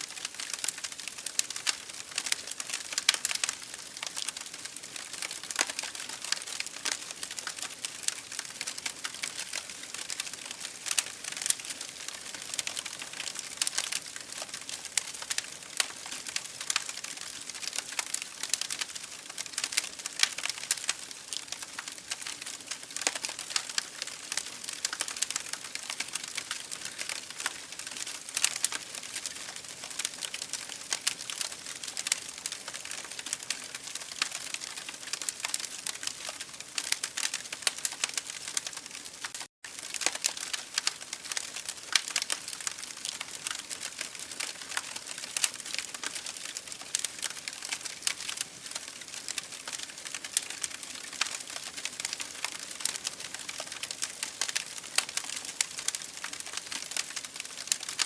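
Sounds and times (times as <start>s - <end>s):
wood fire crackling and popping: 0.1s - 58.0s.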